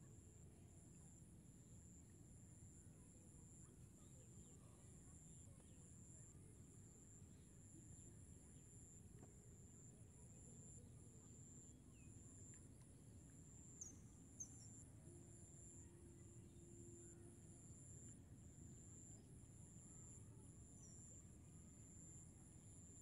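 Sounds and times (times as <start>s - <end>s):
faint insects trilling: 3.5s - 23.0s.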